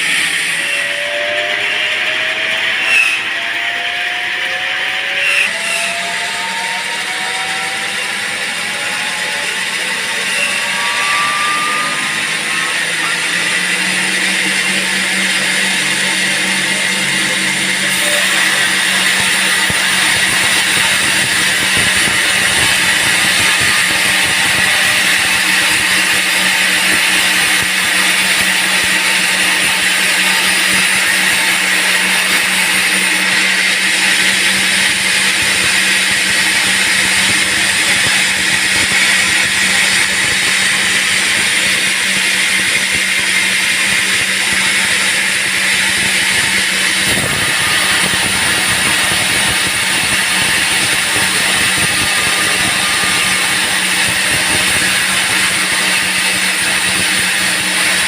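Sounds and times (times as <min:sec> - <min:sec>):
motor hum: 0:00.0 - 0:58.0
saw blade whining through wood: 0:00.0 - 0:58.0.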